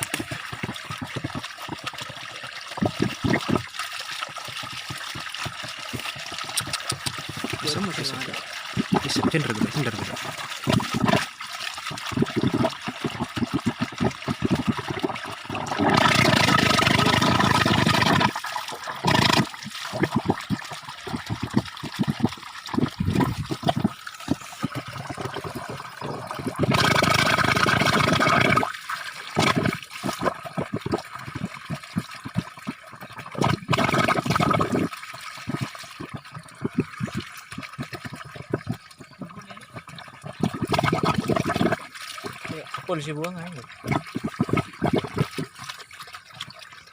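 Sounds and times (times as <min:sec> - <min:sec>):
water spurting and gurgling: 0:00.0 - 0:46.9.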